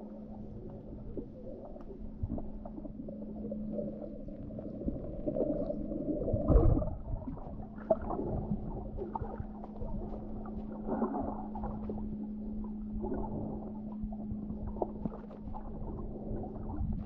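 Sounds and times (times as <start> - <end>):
steady low hum: 0.0 - 17.0
underwater water movement and bubbling: 0.0 - 17.0.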